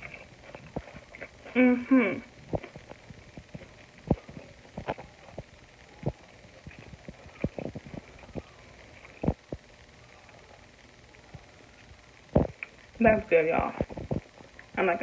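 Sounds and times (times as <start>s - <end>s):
chewing crispy taco shell: 0.0s - 13.0s, 13.8s - 14.8s.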